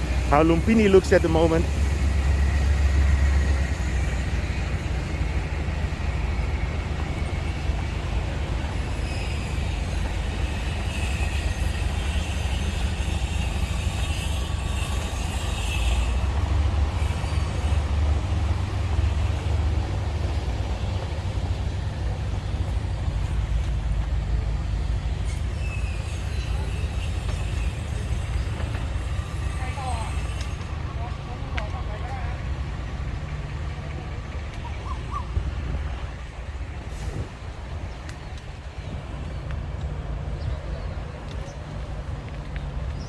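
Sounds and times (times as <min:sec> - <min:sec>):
low rumble of city traffic: 0:00.0 - 0:43.0.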